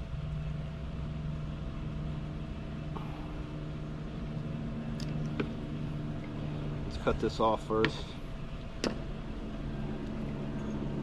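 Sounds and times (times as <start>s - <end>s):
low mechanical motor hum: 0.0s - 11.0s.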